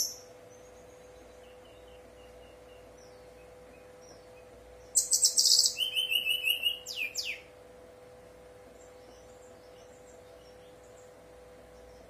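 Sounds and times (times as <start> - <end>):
bird song with trill: 0.0 - 7.6, 8.6 - 12.0
faint steady hum: 0.0 - 12.0.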